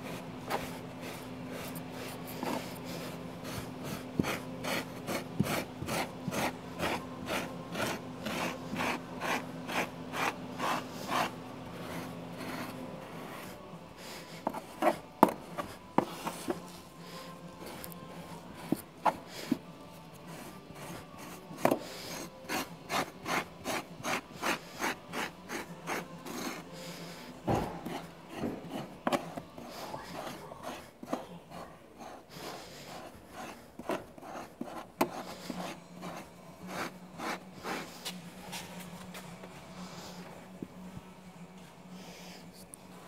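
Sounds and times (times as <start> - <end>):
pumice stone rasping on carpet: 0.0 - 19.6, 20.2 - 38.7.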